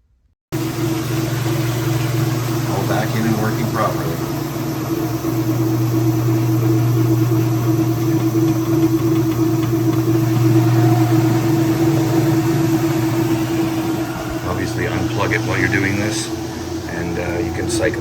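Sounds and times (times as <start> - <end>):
washing machine humming: 0.5 - 18.0.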